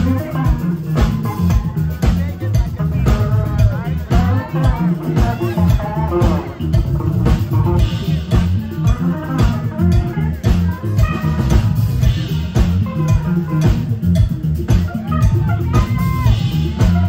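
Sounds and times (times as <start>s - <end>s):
bass guitar: 0.0s - 17.0s
electric guitar: 0.0s - 17.0s.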